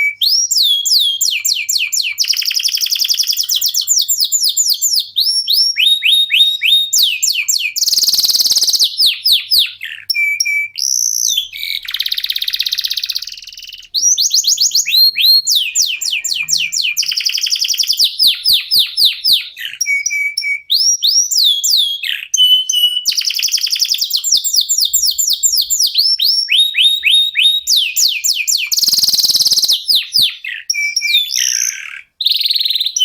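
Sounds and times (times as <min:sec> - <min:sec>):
canaries singing: 0:00.0 - 0:33.0.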